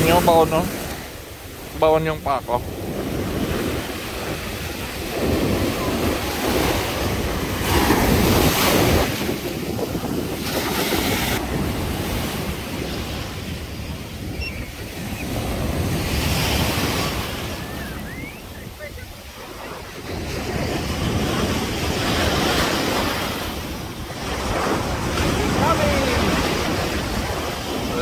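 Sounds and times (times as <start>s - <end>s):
waves breaking on beach: 0.0s - 28.0s
wind buffeting microphone: 2.4s - 28.0s.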